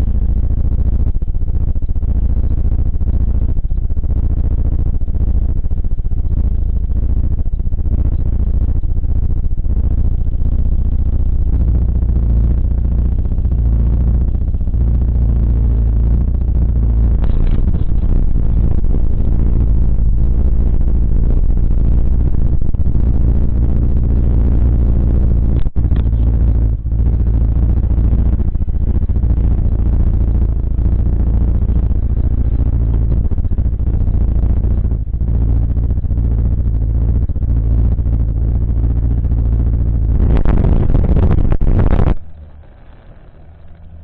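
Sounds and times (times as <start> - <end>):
car driving rumble: 0.0 - 44.0.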